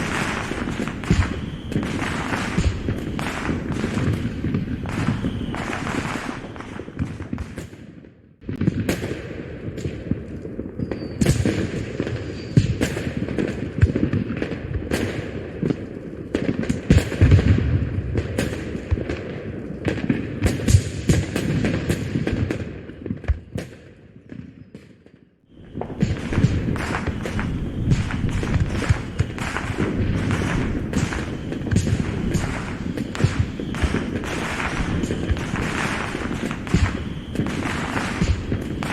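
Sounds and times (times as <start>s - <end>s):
fireworks bursting with crackle: 0.0s - 38.9s
low fireworks booms: 0.0s - 38.9s.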